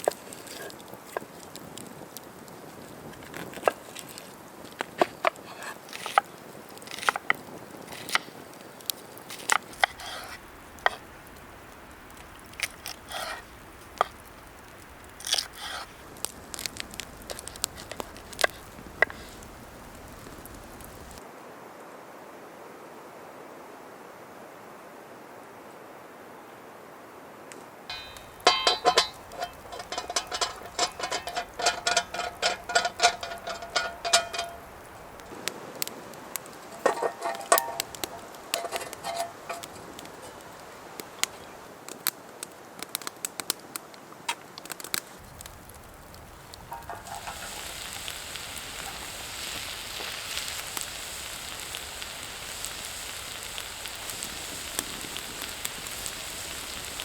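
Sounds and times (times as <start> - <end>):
dense crackling and sizzling: 0.0 - 21.3, 27.9 - 57.0
steady hiss of rain: 0.0 - 57.0.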